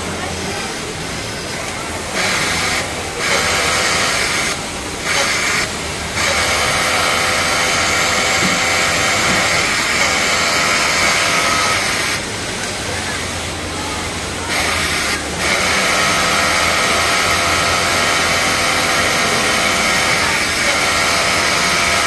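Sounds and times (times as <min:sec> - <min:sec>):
overlock sewing machine running: 0:00.4 - 0:22.0.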